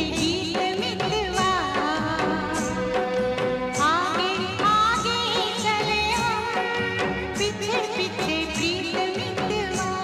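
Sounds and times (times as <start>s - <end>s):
instrumental backing: 0.0s - 10.0s
song with singing voice: 0.0s - 10.0s.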